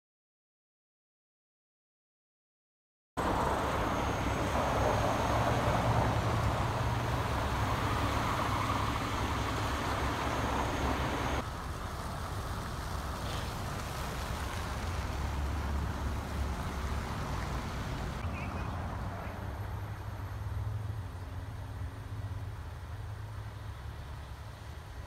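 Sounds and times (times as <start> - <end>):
diesel engines idling: 3.2 - 25.0
road traffic noise: 3.2 - 25.0.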